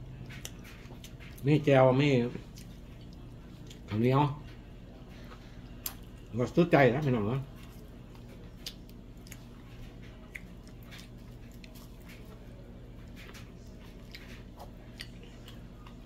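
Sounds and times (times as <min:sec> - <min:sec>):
low steady hum: 0:00.0 - 0:16.0
soft chewing: 0:00.0 - 0:16.0.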